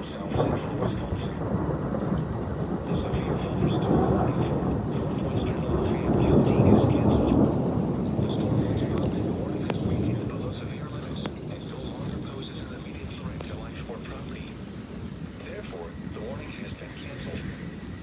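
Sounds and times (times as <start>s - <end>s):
rolling thunder: 0.0s - 18.0s
steady rain: 0.0s - 18.0s.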